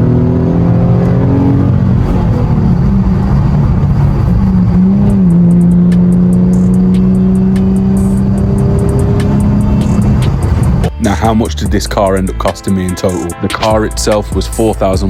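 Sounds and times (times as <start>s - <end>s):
car engine pulling: 0.0s - 12.4s.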